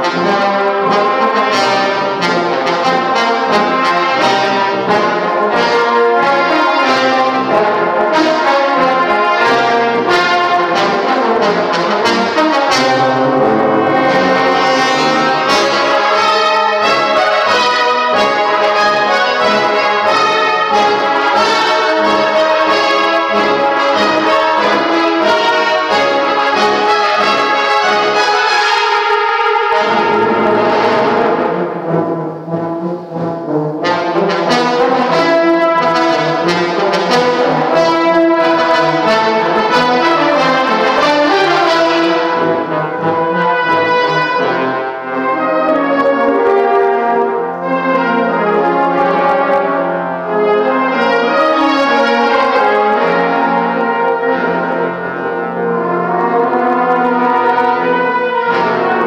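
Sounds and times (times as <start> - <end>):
brass band playing chords: 0.0 - 59.0.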